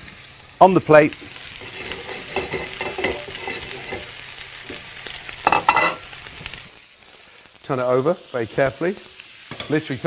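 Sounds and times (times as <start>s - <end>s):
steaks sizzling in frying pan: 0.0s - 10.0s.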